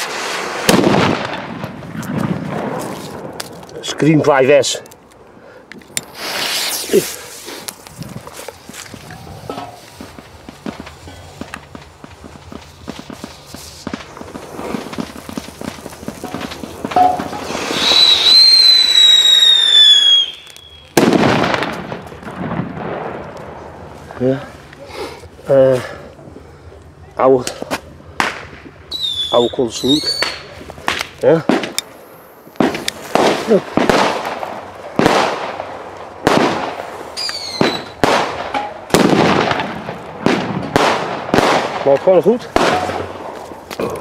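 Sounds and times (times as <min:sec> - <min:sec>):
firecracker hissing and whistling: 0:00.0 - 0:03.6, 0:05.5 - 0:44.0
firecracker bang: 0:00.0 - 0:03.9, 0:06.1 - 0:26.0, 0:27.4 - 0:29.3, 0:29.9 - 0:31.8, 0:32.6 - 0:43.8.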